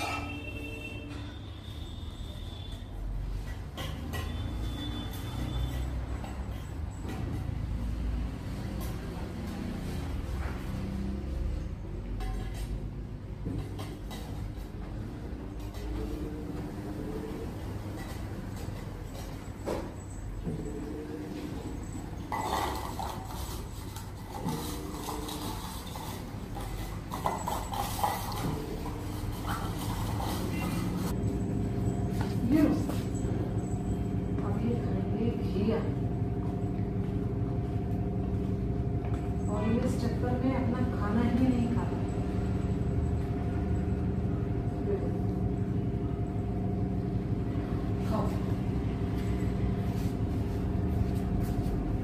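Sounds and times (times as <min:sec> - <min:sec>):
mechanical hum with held tones: 0:00.0 - 0:52.0.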